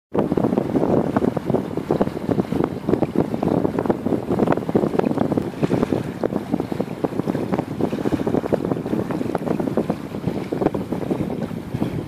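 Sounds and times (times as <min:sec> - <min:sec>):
wind buffeting microphone: 0:00.1 - 0:12.0.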